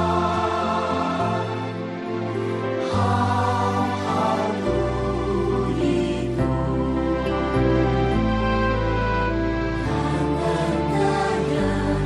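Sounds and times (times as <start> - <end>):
sustained chords music: 0.0 - 12.0.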